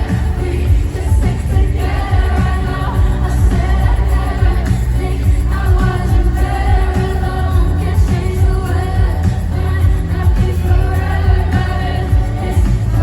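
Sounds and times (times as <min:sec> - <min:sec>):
band with pulsing bass: 0:00.0 - 0:13.0
woman singing: 0:00.0 - 0:13.0.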